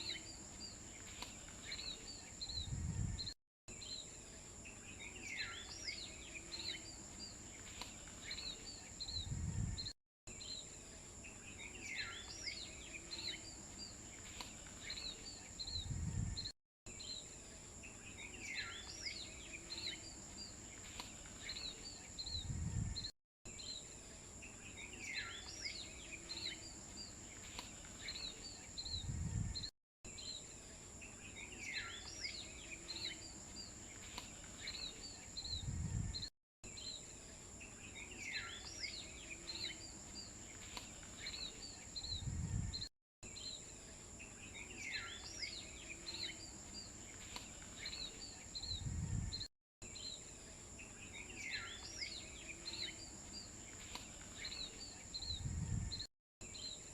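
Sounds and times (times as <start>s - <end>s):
birds chirping and whistling: 4.7s - 10.7s, 11.3s - 17.3s, 17.9s - 23.8s, 24.5s - 30.4s, 31.1s - 37.0s, 37.6s - 43.6s, 44.2s - 50.2s, 50.8s - 56.8s.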